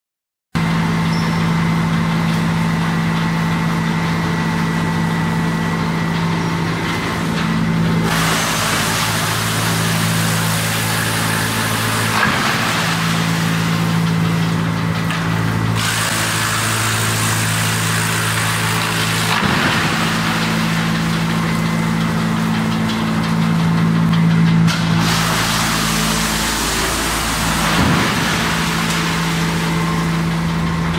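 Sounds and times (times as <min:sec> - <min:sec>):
wood chipper humming: 0:00.6 - 0:30.9
wood being shredded: 0:01.8 - 0:30.9.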